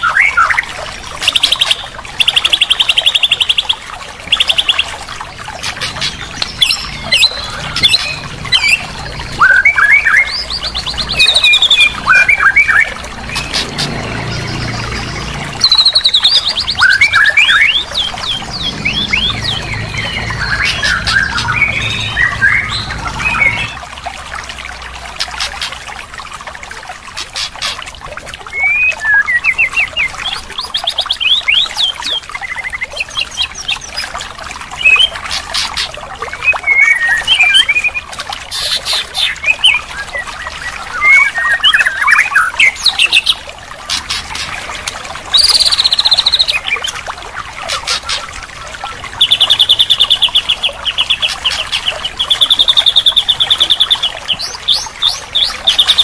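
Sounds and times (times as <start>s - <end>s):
bird song whistles and trills: 0.0s - 5.0s, 5.7s - 23.8s, 28.4s - 44.5s, 45.3s - 47.0s, 48.8s - 56.0s.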